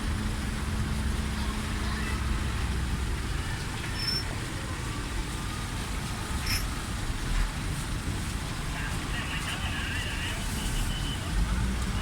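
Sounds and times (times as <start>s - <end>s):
low engine rumble: 0.0s - 12.0s
traffic noise: 0.0s - 12.0s.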